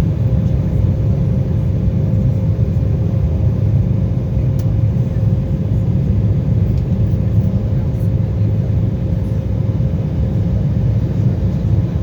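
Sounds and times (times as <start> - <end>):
constant hum tone: 0.0 - 12.0
jet engine rumble: 0.0 - 12.0.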